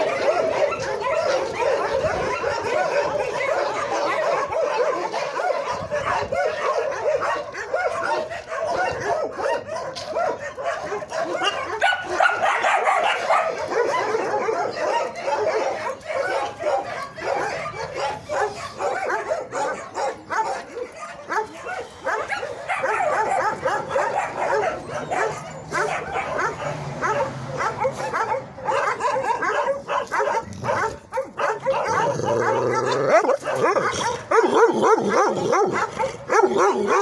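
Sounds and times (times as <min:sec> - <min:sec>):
many dogs barking: 0:00.0 - 0:37.0.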